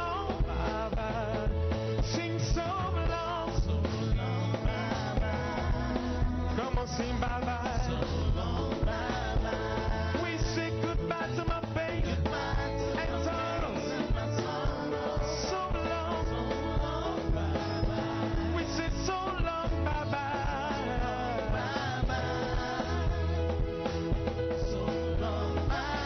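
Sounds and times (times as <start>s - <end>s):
gospel band playing: 0.0s - 26.0s
singers singing: 0.0s - 26.0s.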